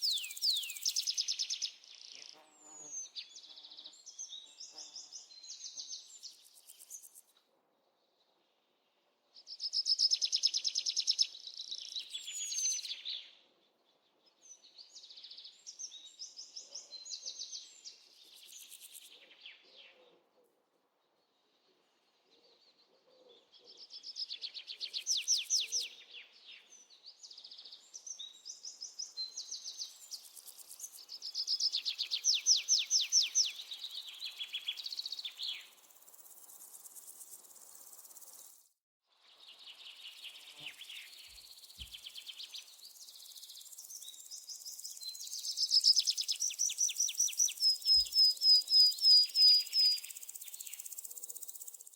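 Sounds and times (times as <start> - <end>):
small birds chirping and trilling: 0.0 - 7.4, 8.0 - 20.1, 21.0 - 51.9.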